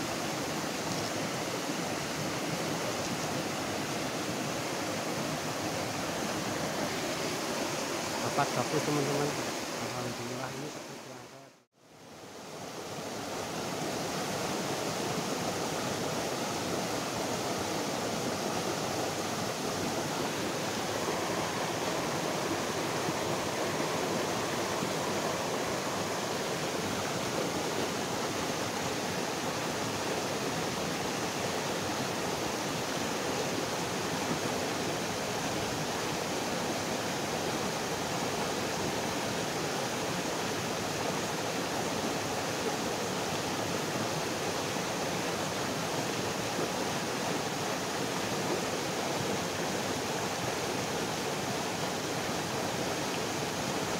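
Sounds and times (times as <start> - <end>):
stream rushing over rocks: 0.0 - 53.9.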